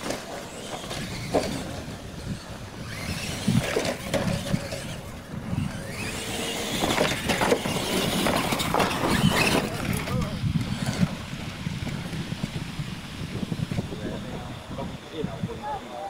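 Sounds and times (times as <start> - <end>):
toy truck motors running: 0.0 - 16.0
tyres on loose dirt: 0.0 - 16.0.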